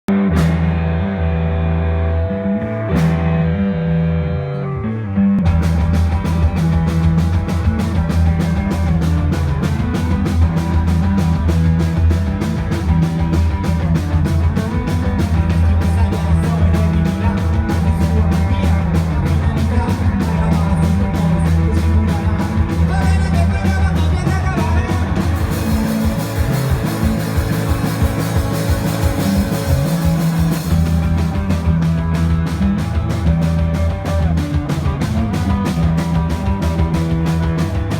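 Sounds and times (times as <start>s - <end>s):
ringing guitar chords: 0.1s - 37.9s
rock band playing live: 0.1s - 37.9s.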